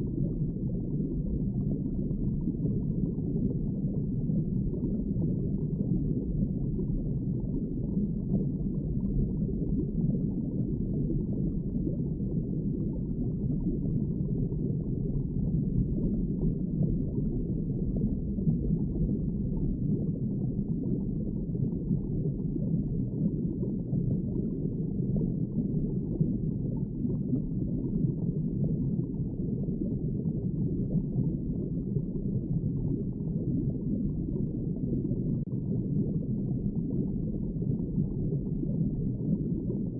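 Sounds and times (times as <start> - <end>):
muffled underwater rumble: 0.0 - 39.9
water bubbling and gurgling: 0.0 - 39.9.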